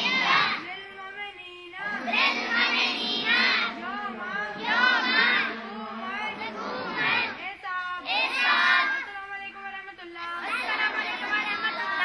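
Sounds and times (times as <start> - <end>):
girls chanting in unison: 0.0 - 1.1, 1.8 - 12.0
burst of many voices: 0.0 - 12.0.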